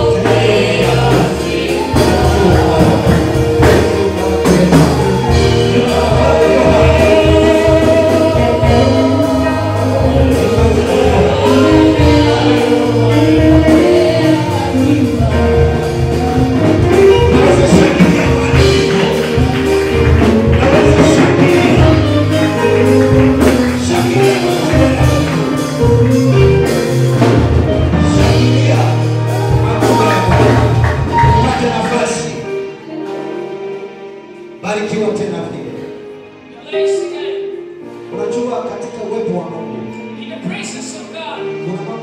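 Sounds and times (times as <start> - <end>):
gospel worship music: 0.0 - 42.0.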